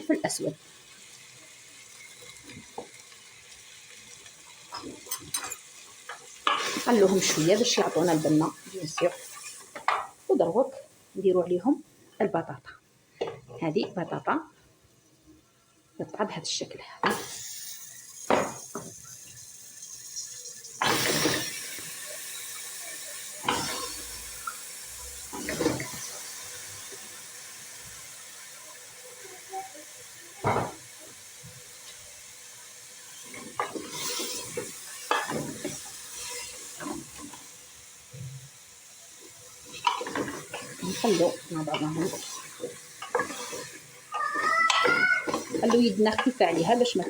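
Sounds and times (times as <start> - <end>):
food sizzling in a pot: 0.0 - 47.0.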